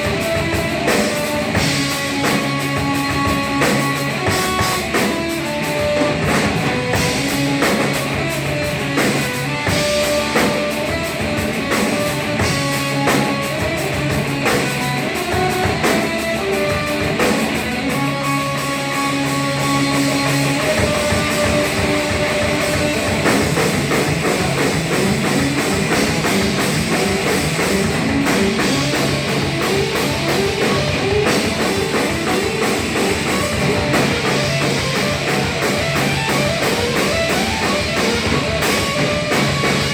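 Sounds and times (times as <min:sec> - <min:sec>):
distorted electric guitar riffs: 0:00.0 - 0:39.9
drum kit: 0:00.0 - 0:39.9.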